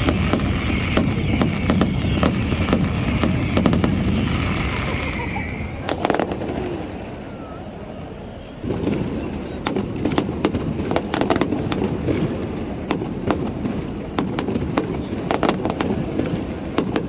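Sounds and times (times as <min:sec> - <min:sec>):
fireworks cracking: 0:00.0 - 0:07.3, 0:08.6 - 0:17.0.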